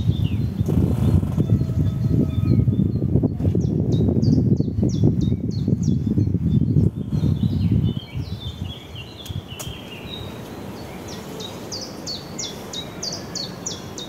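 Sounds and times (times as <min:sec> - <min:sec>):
outdoor background rustle: 0:00.0 - 0:04.2, 0:05.6 - 0:14.0
songbird singing: 0:00.0 - 0:14.0.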